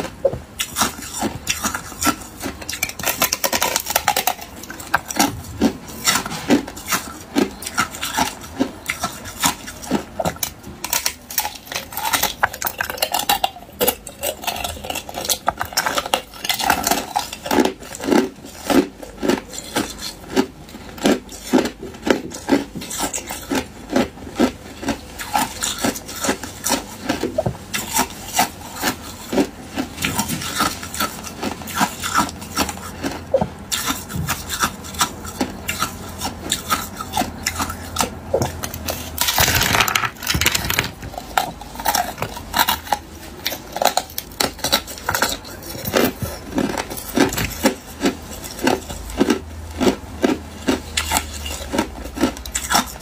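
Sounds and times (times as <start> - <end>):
ice cubes crunched between teeth: 8.9 - 53.0.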